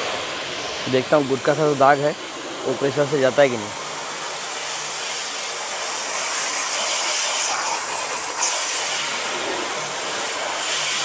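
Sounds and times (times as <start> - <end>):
pressure washer spraying: 0.0 - 11.0.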